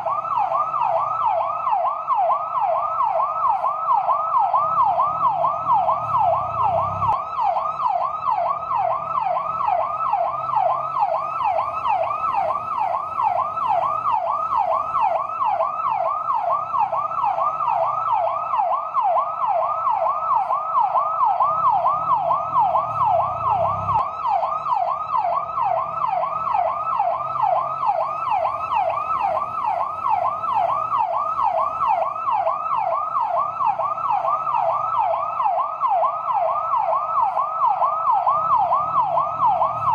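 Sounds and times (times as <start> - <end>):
electronic yelp siren: 0.0 - 39.9.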